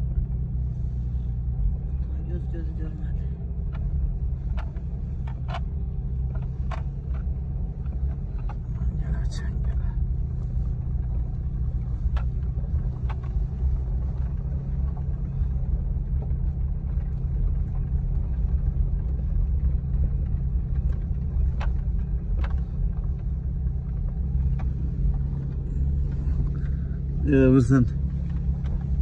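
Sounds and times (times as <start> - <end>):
car engine low rumble: 0.0 - 29.0
car knocking on rough track: 3.6 - 29.0.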